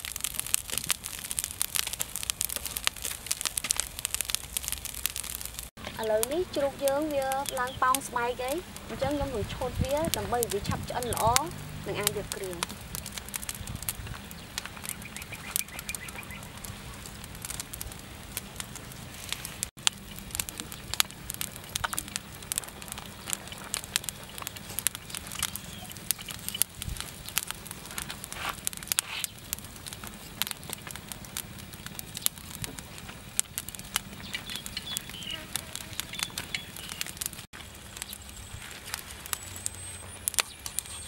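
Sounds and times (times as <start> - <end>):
charcoal fire crackling and popping: 0.0 - 41.0.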